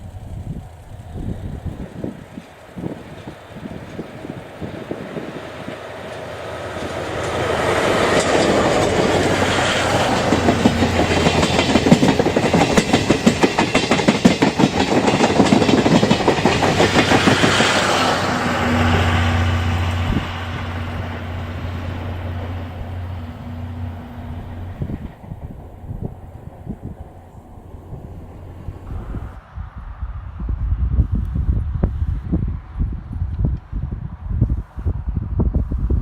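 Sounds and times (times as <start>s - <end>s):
wheels clacking over rail joints: 0.0s - 28.9s
diesel train passing: 0.0s - 31.0s.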